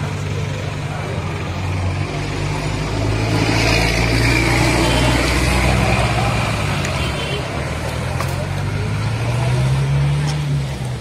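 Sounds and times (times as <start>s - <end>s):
street noise: 0.0s - 11.0s
vehicle engine rumbling: 0.0s - 11.0s.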